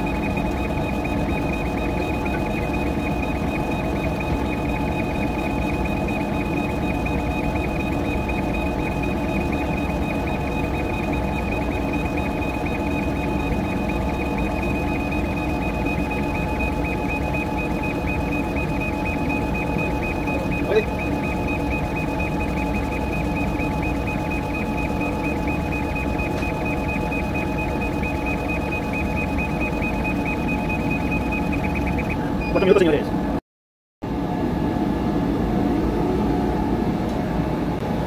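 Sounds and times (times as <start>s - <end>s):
laser engraver whining: 0.0s - 33.0s
fast even ticking: 0.1s - 32.2s.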